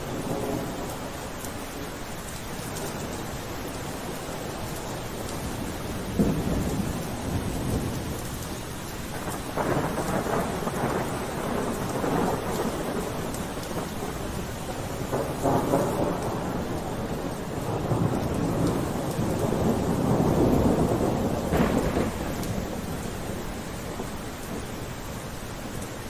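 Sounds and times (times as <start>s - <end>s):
thunder rumbling: 0.0s - 1.4s, 2.7s - 25.3s
steady rain falling: 0.0s - 26.0s.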